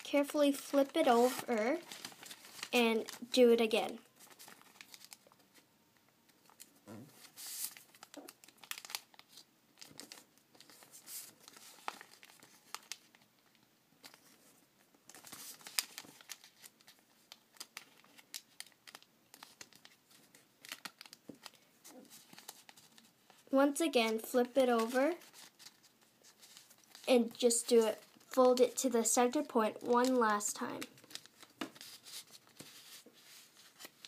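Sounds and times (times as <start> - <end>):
paper rustling and crinkling: 0.0 - 5.7, 6.3 - 34.0.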